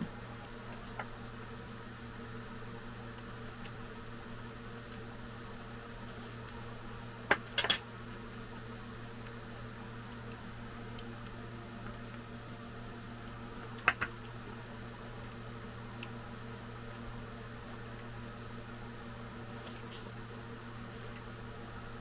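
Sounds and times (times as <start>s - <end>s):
low appliance hum: 0.0s - 22.0s.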